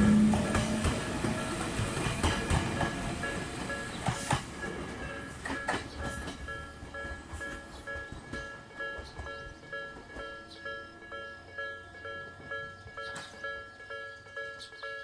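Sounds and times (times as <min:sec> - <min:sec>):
train wheels clacking on rail joints: 0:00.0 - 0:10.7, 0:12.4 - 0:15.0
level crossing warning bell: 0:00.0 - 0:15.0.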